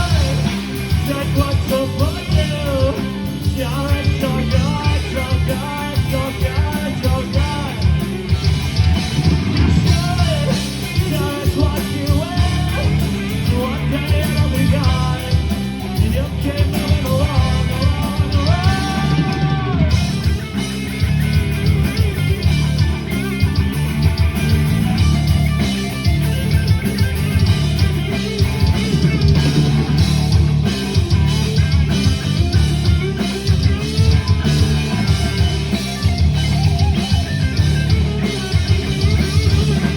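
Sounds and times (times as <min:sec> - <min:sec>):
rock music with singing: 0:00.0 - 0:39.9.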